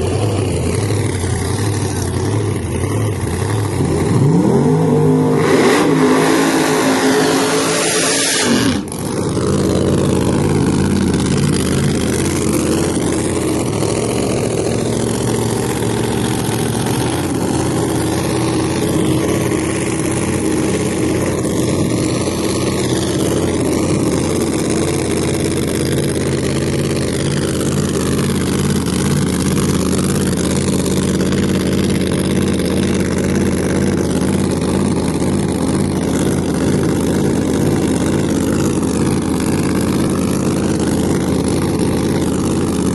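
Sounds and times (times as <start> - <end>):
drag car engine running: 0.0 - 42.9.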